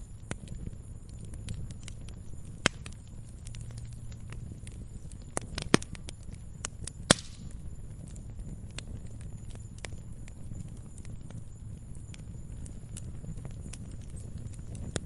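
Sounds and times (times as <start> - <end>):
campfire crackling and popping: 0.0 - 15.0
low rumble of flame: 0.0 - 15.0.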